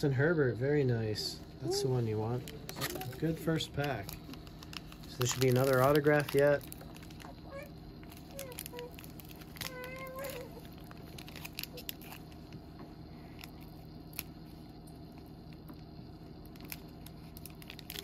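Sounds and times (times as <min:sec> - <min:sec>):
foil wrapper crinkling: 0:02.0 - 0:18.0.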